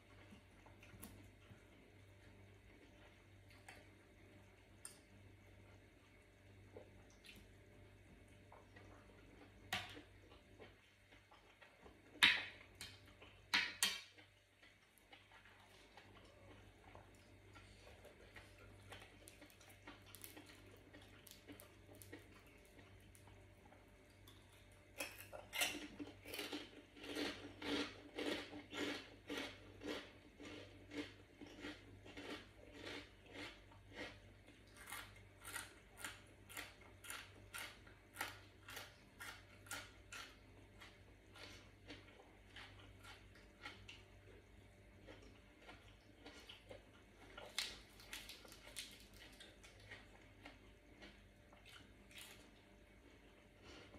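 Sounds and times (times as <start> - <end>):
chewing crunchy food: 0.0 - 53.9.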